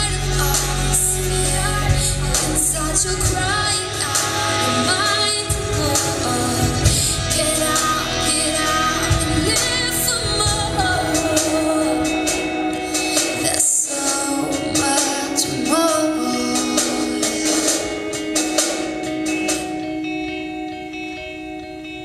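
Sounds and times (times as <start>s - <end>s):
woman singing worship song: 0.0s - 18.4s.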